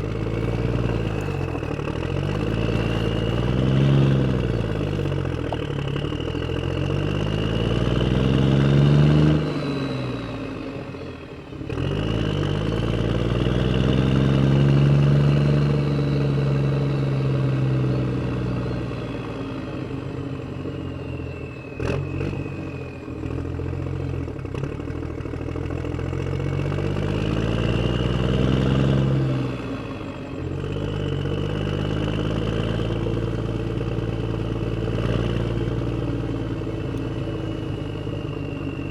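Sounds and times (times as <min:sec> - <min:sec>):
vehicle motor revving: 0:00.0 - 0:25.0, 0:25.6 - 0:38.9.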